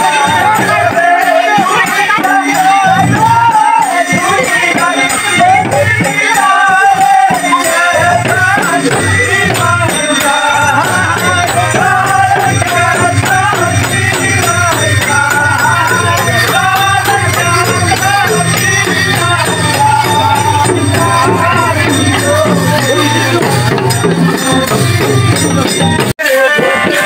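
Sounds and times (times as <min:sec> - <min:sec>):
barrel drum: 0:00.0 - 0:27.0
jingling rattling percussion: 0:00.0 - 0:27.0
men singing together: 0:00.0 - 0:27.0.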